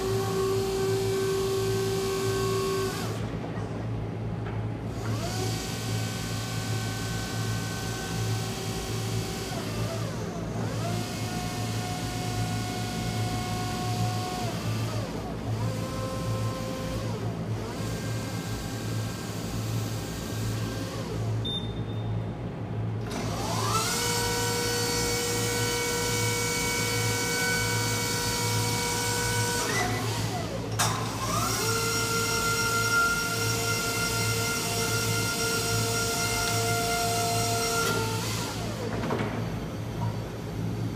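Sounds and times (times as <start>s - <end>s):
hydraulic pump motor whining: 0.0s - 3.3s, 4.9s - 21.4s, 23.0s - 40.5s.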